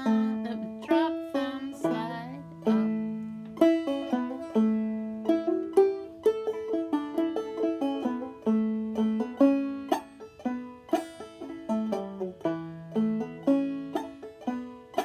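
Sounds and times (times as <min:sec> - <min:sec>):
banjo playing fiddle tune: 0:00.0 - 0:15.0.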